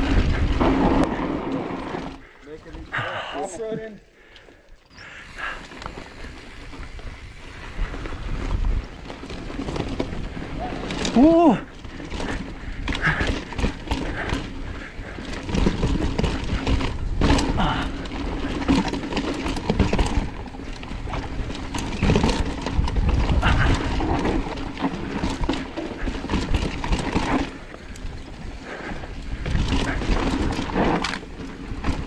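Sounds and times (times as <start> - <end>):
bike rattling over bumps: 0.0 - 3.5, 5.0 - 32.0
bike tyres crunching over rocks: 0.0 - 32.0.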